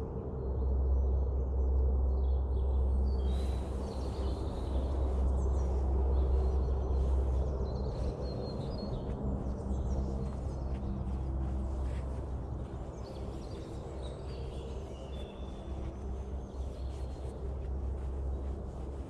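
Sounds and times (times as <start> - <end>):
steady low rumble: 0.0 - 19.0
small birds chirping: 3.0 - 19.0.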